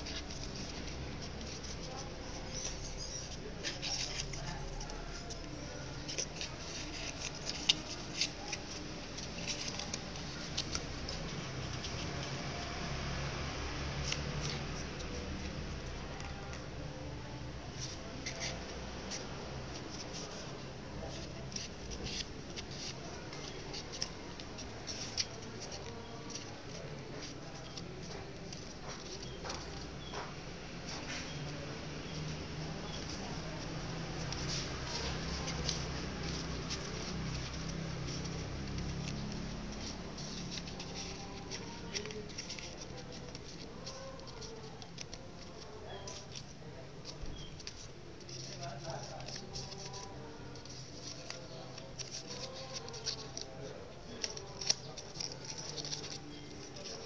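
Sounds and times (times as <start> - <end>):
paper crinkling and rustling: 0.0 - 57.0.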